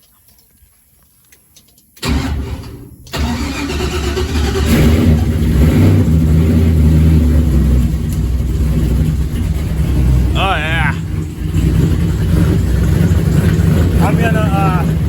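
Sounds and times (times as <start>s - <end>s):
truck engine starter cranking: 1.7s - 15.0s
truck engine running: 2.0s - 15.0s.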